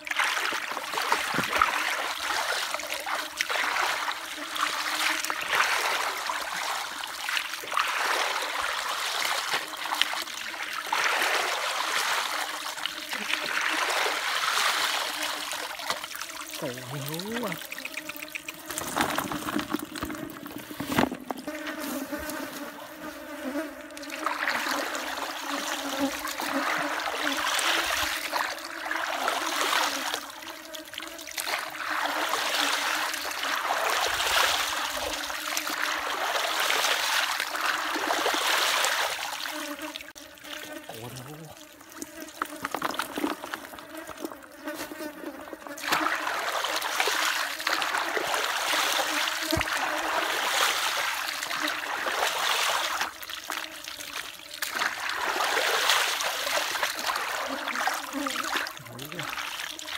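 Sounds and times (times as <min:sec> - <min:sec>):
muddy water sloshing and trickling: 0:00.0 - 0:59.9.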